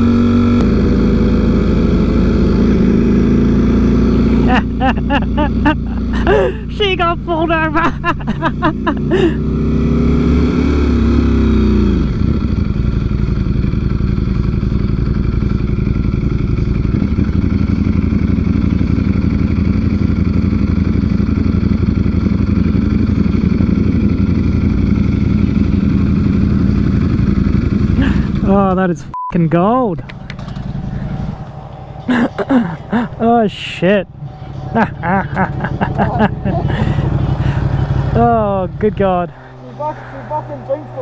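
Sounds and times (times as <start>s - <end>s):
motorcycle engine: 0.0s - 41.0s.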